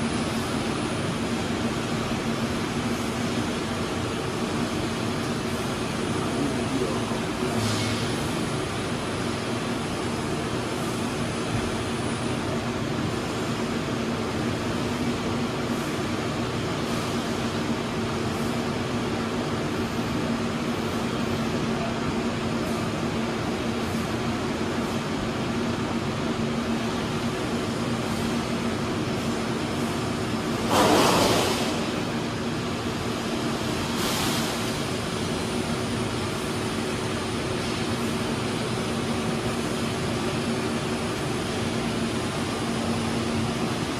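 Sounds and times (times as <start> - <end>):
machinery humming: 0.0 - 43.9.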